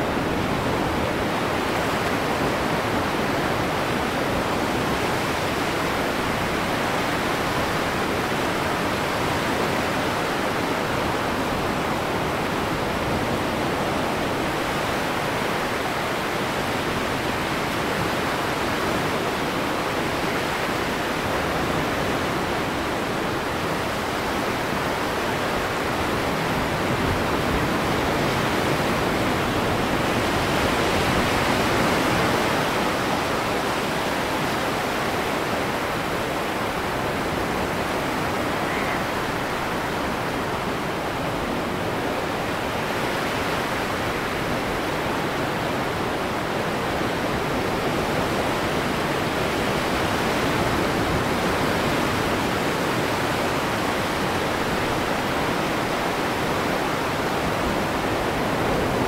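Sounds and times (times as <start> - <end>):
steady loud rushing noise: 0.0 - 59.0.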